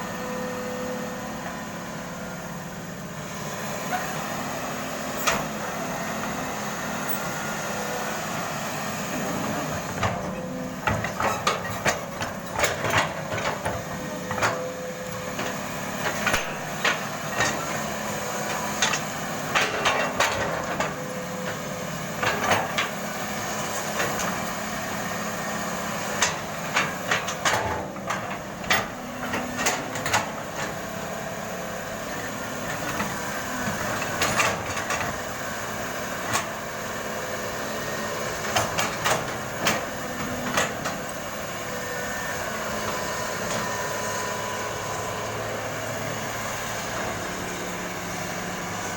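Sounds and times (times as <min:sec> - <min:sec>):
excavator engine running: 0:00.1 - 0:48.9.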